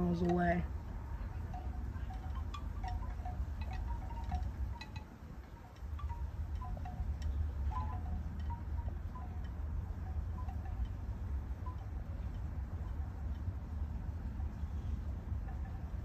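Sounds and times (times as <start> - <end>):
light tinkling notes: 0.0 - 16.0
wind buffeting microphone: 0.0 - 16.0.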